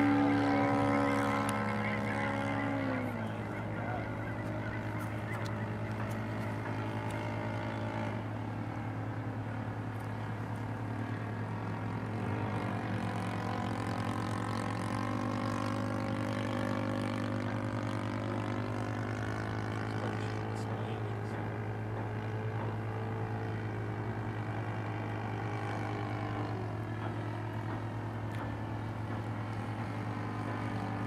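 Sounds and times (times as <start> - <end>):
model airplane motor and propeller: 0.0 - 31.0
steady low hum: 0.0 - 31.0.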